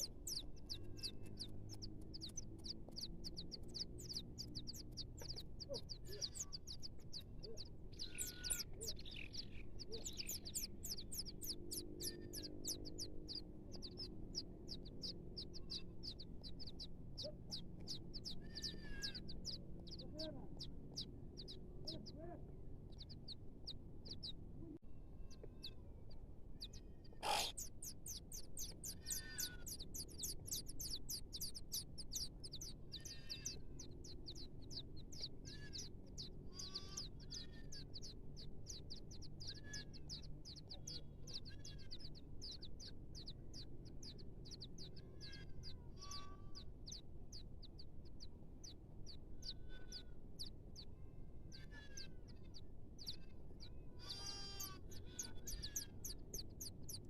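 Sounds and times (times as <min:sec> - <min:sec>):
lower bird calls: 0:00.0 - 0:22.3, 0:26.6 - 0:47.8, 0:48.6 - 0:50.1, 0:51.5 - 0:57.0
small birds chirping: 0:00.0 - 0:57.0.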